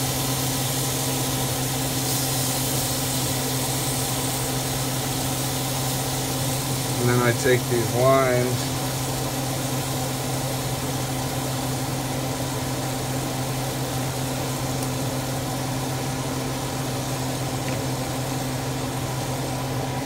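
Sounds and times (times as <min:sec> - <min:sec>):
exhaust fan humming: 0:00.0 - 0:20.0
fish frying in a pan: 0:00.0 - 0:20.0.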